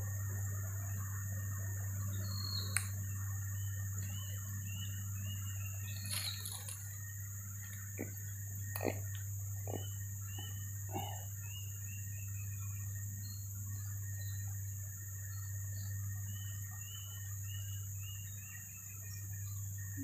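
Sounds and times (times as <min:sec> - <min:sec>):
insects droning: 0:00.0 - 0:20.0
steady low hum: 0:00.0 - 0:20.0.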